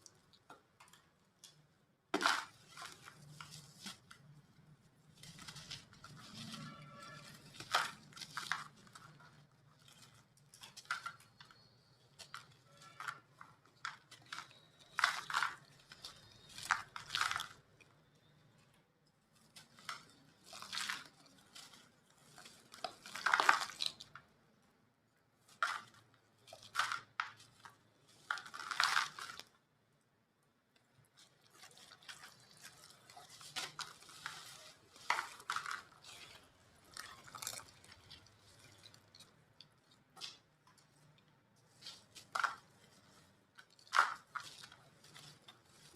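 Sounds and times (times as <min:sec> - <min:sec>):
cement chunks being crushed: 0:02.2 - 0:17.8, 0:19.5 - 0:24.3, 0:25.6 - 0:29.6, 0:31.2 - 0:45.9.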